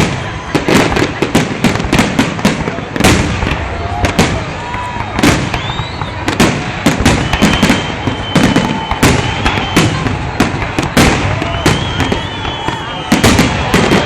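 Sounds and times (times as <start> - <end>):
firework whistling: 0.0 - 14.0.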